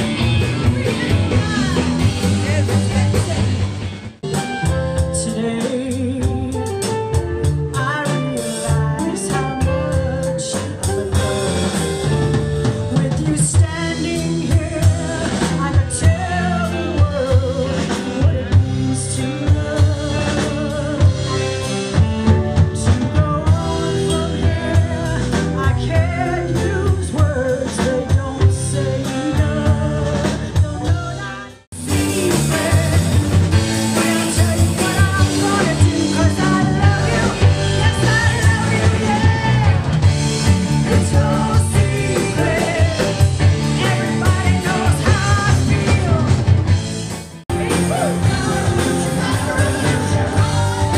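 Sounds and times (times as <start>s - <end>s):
woman singing lead: 0.0s - 3.8s, 4.6s - 46.5s, 47.5s - 50.9s
live rock band playing: 0.0s - 50.9s.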